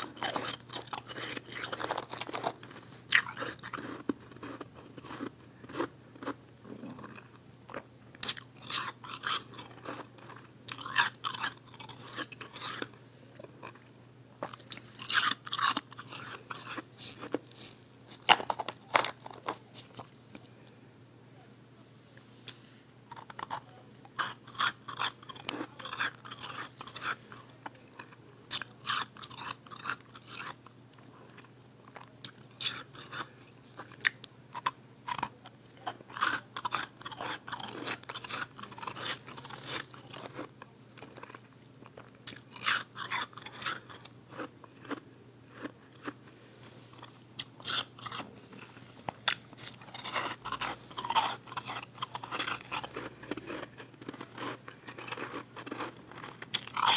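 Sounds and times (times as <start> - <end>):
crunchy ice chewing: 0.0 - 20.2, 23.1 - 56.9.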